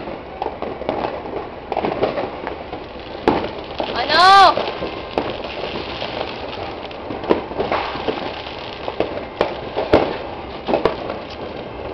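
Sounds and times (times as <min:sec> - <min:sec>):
firecracker bangs: 0:00.0 - 0:11.9
fireworks crackling: 0:00.0 - 0:11.9.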